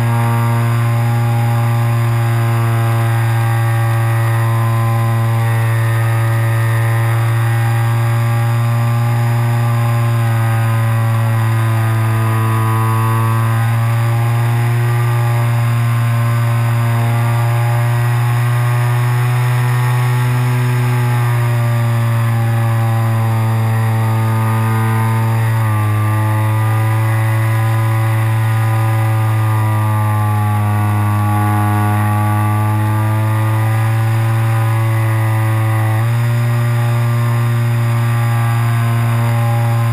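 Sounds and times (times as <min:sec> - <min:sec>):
model plane motor drone: 0:00.0 - 0:39.9.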